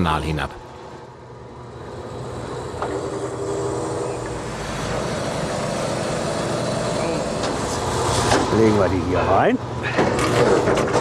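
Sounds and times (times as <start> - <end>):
steady-pitched hum: 0.0 - 9.9
truck engine and pump drone: 0.6 - 11.0.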